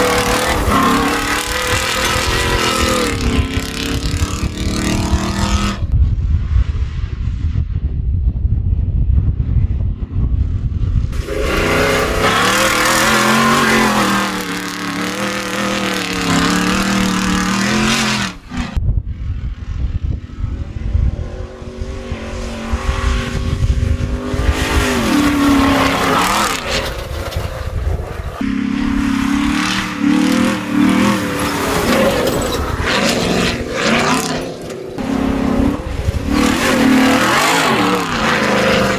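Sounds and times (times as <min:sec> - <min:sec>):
truck engine revving: 0:00.0 - 0:05.9, 0:11.1 - 0:18.8, 0:20.1 - 0:38.9.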